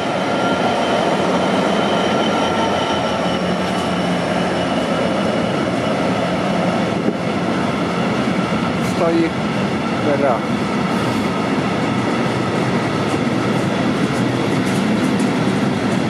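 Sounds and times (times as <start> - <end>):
diesel locomotive engine passing: 0.0 - 16.0.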